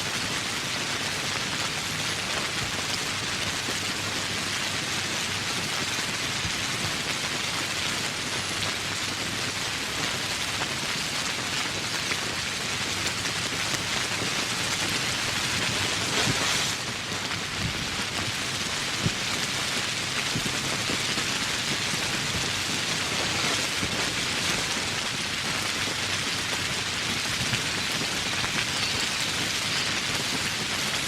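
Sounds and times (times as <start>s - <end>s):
rain falling: 0.1s - 31.0s
raindrops pattering: 0.1s - 31.0s.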